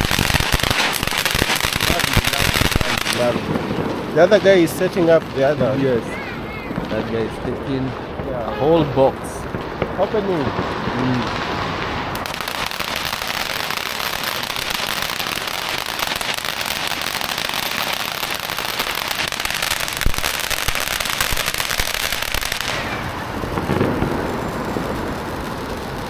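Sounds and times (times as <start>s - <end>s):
firecrackers crackling: 0.0s - 26.0s
loud firecracker bang: 0.0s - 26.0s.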